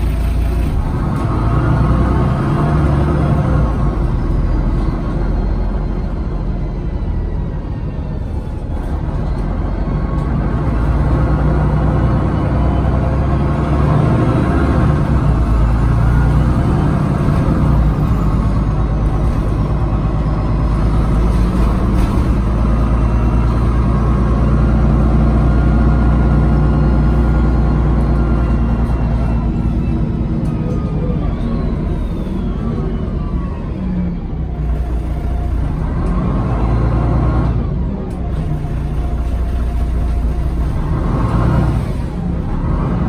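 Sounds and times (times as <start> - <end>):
bus engine rumbling: 0.0 - 43.0.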